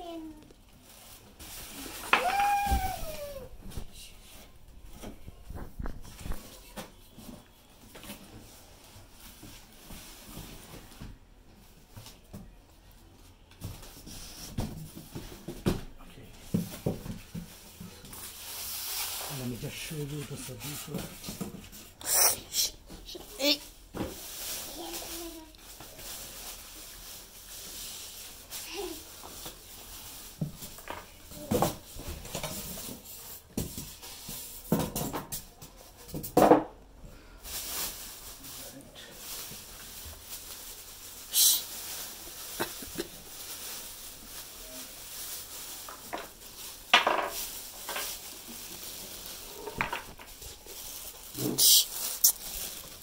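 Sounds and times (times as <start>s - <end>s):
plastic bag rustling: 0.0s - 11.0s, 16.2s - 34.6s, 37.3s - 53.0s.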